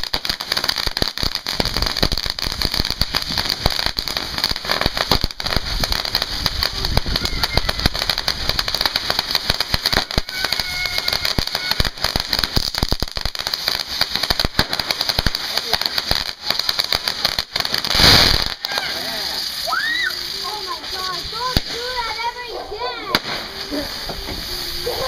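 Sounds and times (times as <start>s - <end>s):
fireworks hissing and crackling: 0.0s - 25.0s.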